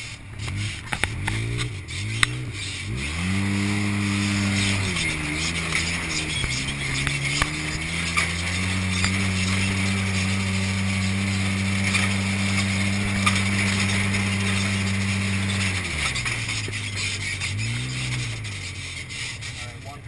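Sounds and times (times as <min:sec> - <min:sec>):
off-road vehicle engine running: 0:00.0 - 0:20.0
vehicle clicks and rattles: 0:00.0 - 0:20.0.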